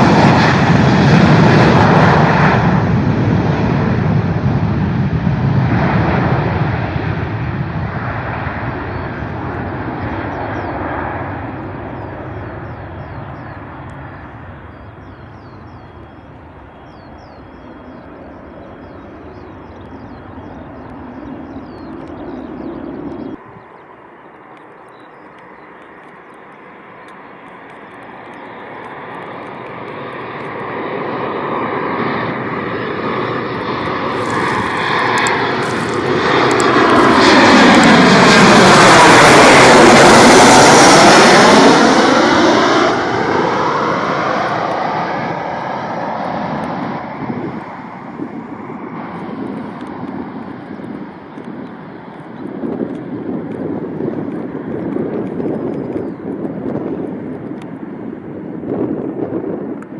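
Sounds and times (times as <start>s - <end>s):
jet aircraft flying past: 0.0s - 59.9s.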